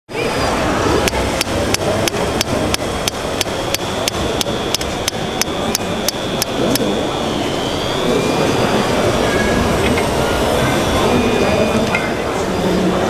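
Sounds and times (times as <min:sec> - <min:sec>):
hall background noise: 0:00.1 - 0:13.0.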